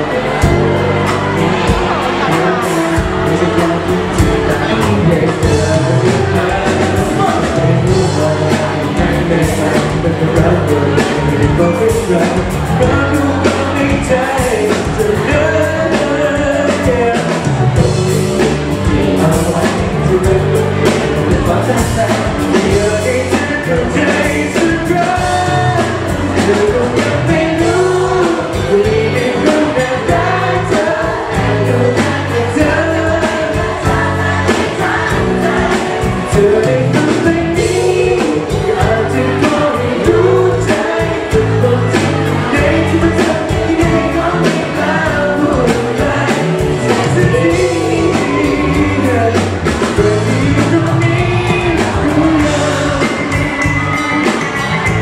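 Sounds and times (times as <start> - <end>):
lead singer singing: 0.0 - 55.0
pop song played live by band: 0.0 - 55.0.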